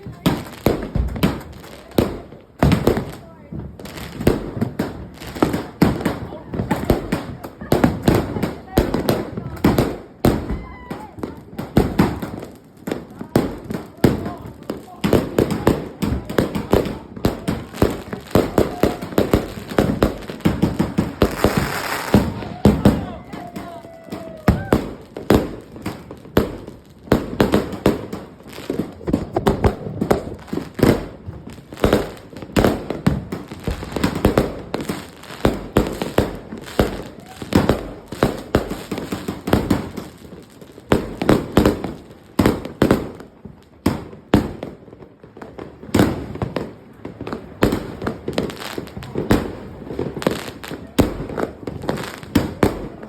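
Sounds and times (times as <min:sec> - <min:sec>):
fireworks bangs: 0:00.0 - 0:53.0
fireworks crackling: 0:00.0 - 0:53.0.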